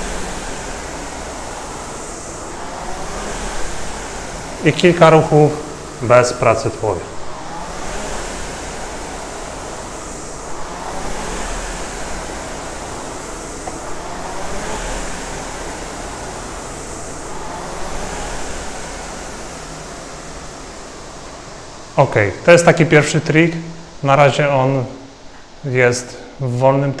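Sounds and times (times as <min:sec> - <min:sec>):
rowing machine flywheel whooshing: 0:00.0 - 0:26.4.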